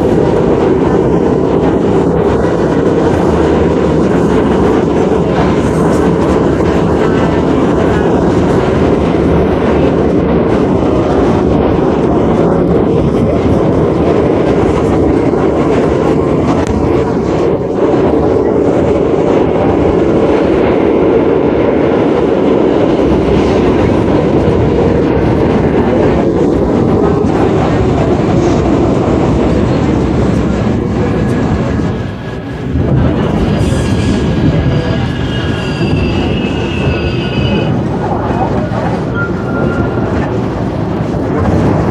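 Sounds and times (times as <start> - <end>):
clickety-clack of wheels: 0.0 - 41.9
subway wheels on rail: 0.0 - 41.9.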